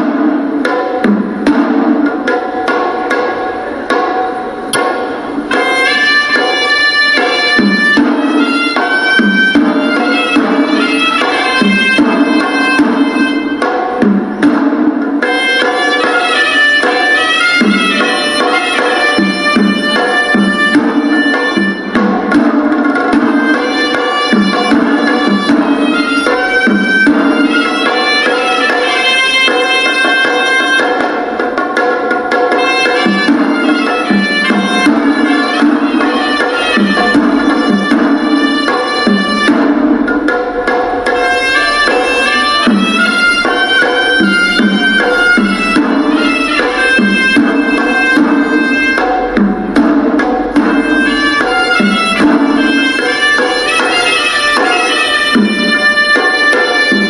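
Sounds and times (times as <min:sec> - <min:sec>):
drums beating a steady pattern: 0:00.0 - 0:57.0
double-reed shawm melody: 0:00.1 - 0:57.0.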